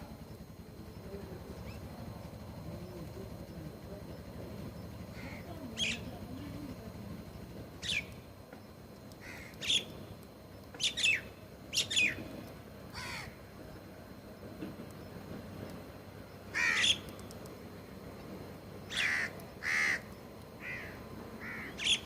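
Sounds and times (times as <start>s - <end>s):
birds calling: 0.0s - 15.3s, 16.2s - 22.0s.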